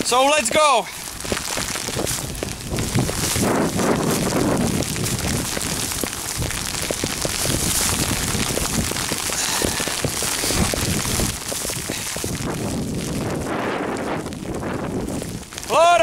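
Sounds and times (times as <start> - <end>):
close raindrop hits: 0.0 - 16.0
steady rain falling: 0.0 - 16.0.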